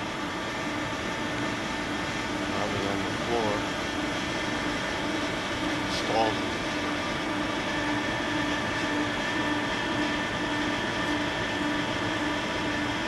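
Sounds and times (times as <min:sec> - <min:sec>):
shop machinery drone: 0:00.0 - 0:13.0.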